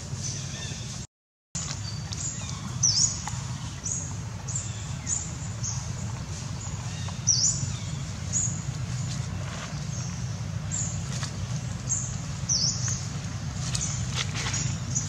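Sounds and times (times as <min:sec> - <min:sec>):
birds chirping: 0:01.6 - 0:15.0
steady low hum: 0:01.6 - 0:15.0.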